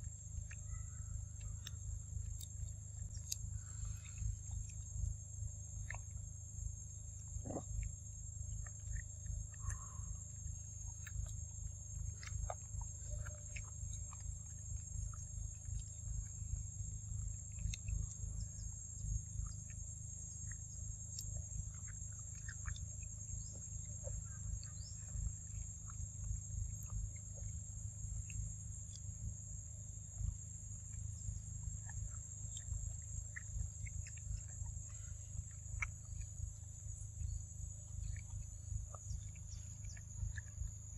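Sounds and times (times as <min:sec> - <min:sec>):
high-pitched insect drone: 0:00.0 - 0:40.9
monkeys chewing fruit: 0:00.0 - 0:40.9.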